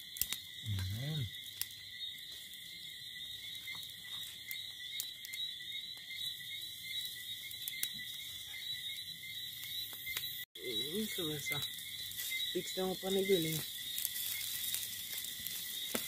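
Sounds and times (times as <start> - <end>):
insects and frogs calling: 0.0 - 16.0.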